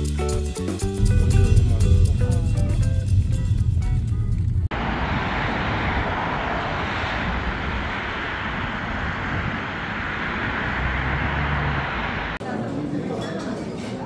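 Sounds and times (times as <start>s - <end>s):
low rumble: 0.9s - 12.4s
steady rushing noise: 1.0s - 12.4s.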